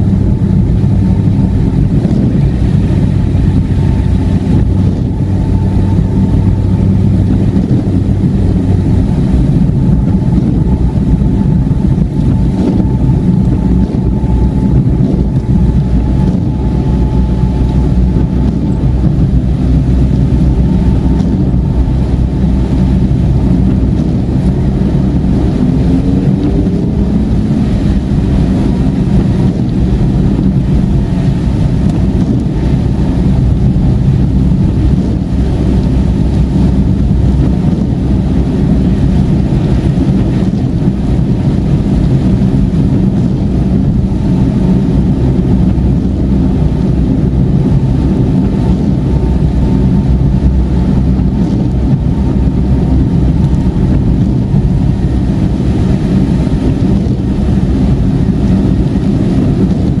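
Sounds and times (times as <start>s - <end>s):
car engine drone: 0.0s - 60.0s
tyre noise on wet road: 0.0s - 60.0s.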